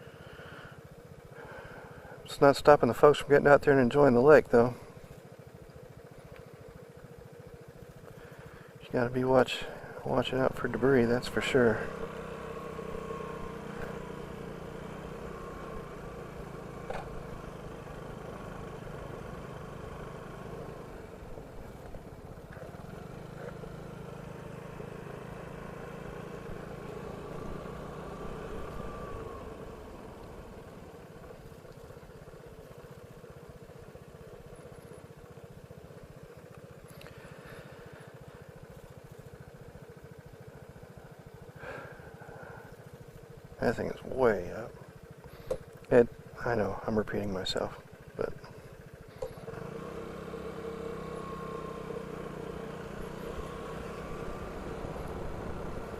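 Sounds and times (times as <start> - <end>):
scooter engine running: 0.0 - 55.9.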